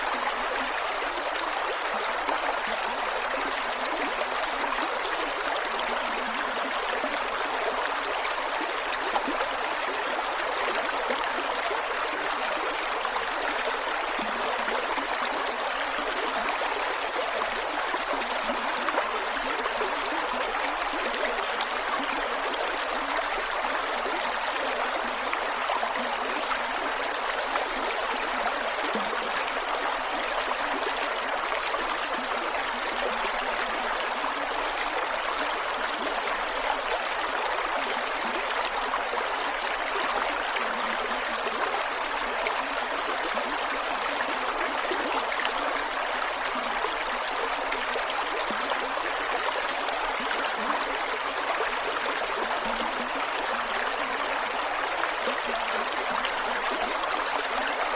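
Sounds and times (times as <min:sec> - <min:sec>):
creek water flowing over rocks: 0:00.0 - 0:57.9.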